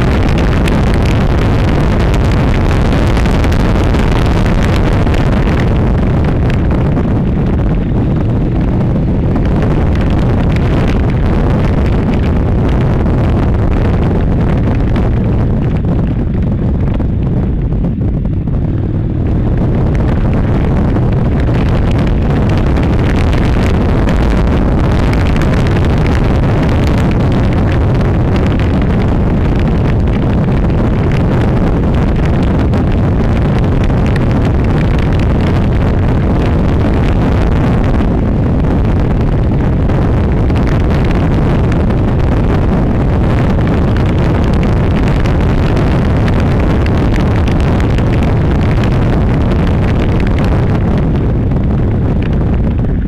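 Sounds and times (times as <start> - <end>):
motorcycle engine rumble: 0.0 - 53.0
wind noise on microphone: 0.0 - 53.0.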